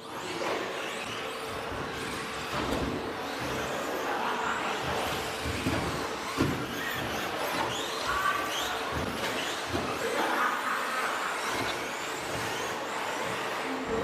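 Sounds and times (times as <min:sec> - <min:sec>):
high electric motor whines: 0:00.0 - 0:14.0.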